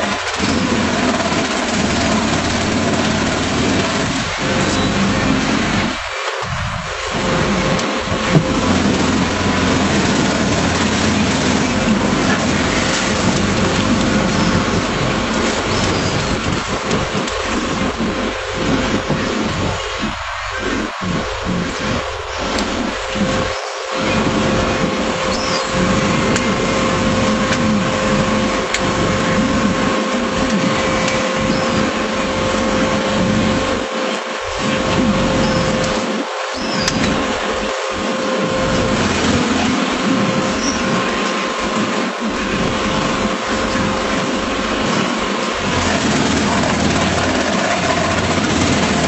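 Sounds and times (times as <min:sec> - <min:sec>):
boat engine droning: 0:00.0 - 0:49.0
steady hiss: 0:00.0 - 0:49.0
thin whine: 0:00.0 - 0:49.0.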